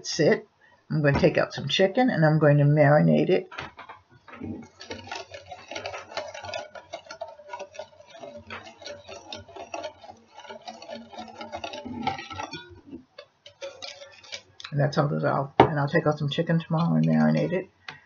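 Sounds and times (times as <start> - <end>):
spoon stirring in a bowl: 3.1 - 18.0.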